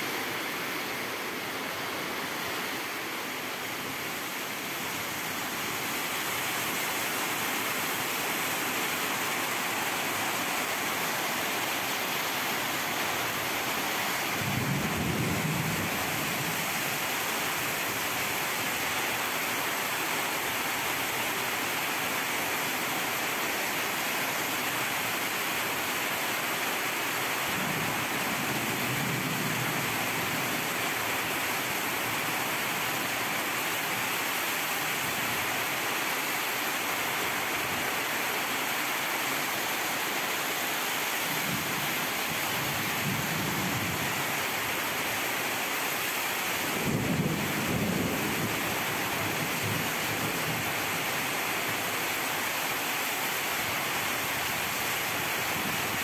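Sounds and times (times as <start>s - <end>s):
heavy rain on rooftops: 0.0s - 56.0s.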